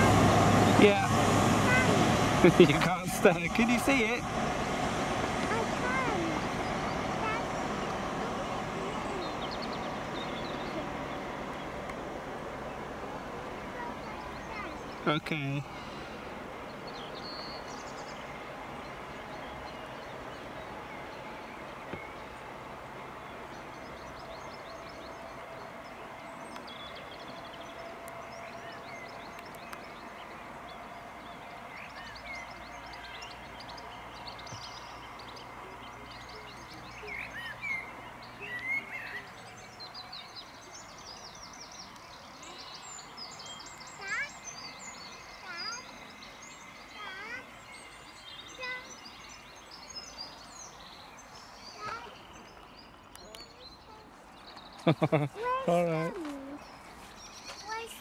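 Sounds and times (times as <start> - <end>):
diesel engine drone: 0.0 - 52.4
birds chirping: 0.0 - 58.0.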